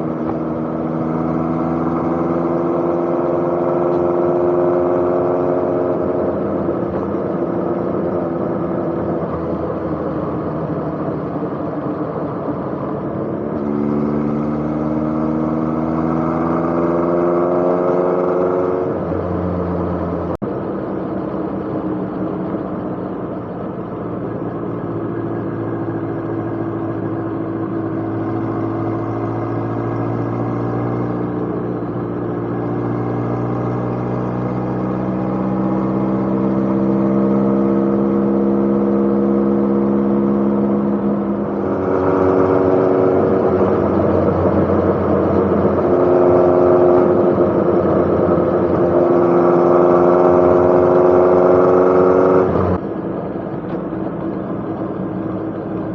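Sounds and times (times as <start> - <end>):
engine with rising pitch: 0.0 - 55.9
motorcycle engine accelerating: 0.0 - 55.9.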